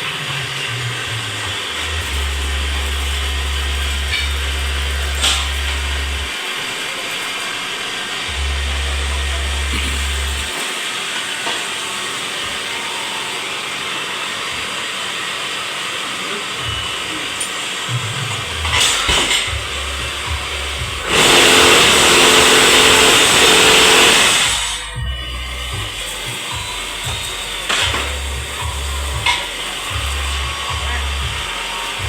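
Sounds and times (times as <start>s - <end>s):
vibrating moulding machine running: 0.0s - 32.0s.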